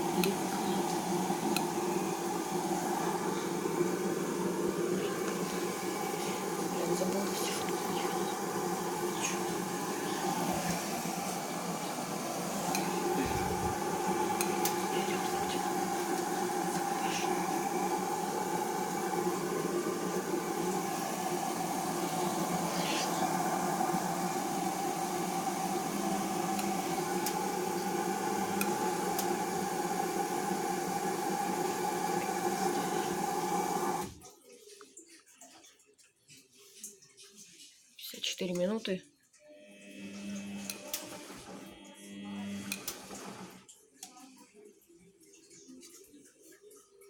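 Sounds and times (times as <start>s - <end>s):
washing machine motor hum: 0.0s - 34.3s, 39.5s - 43.8s.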